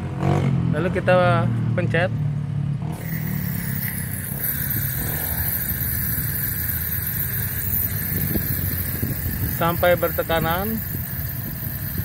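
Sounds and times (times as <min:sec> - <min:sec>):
low steady rumble: 0:00.7 - 0:12.0.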